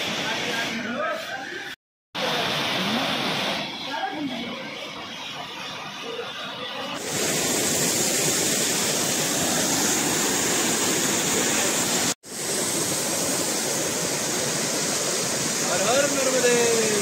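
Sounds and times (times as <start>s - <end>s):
waterfall roaring: 2.2s - 17.0s.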